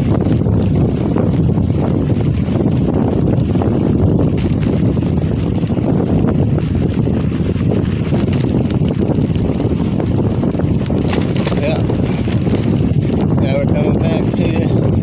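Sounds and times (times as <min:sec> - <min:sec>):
tyres crunching on loose ground: 0:00.0 - 0:15.0
wind on microphone: 0:00.0 - 0:15.0.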